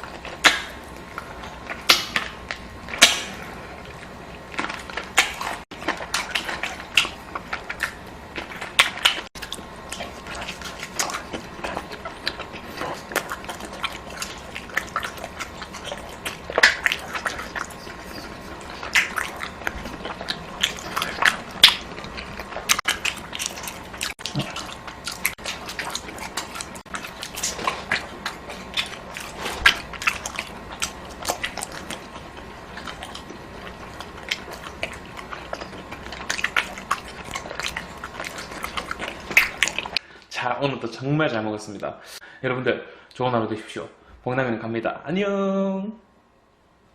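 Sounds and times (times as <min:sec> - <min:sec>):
person chewing and biting: 0:00.0 - 0:40.1.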